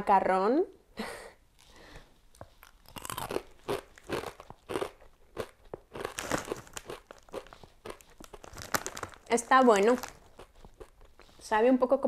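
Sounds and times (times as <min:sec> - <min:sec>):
person chewing crunchy snack: 0:01.6 - 0:11.4.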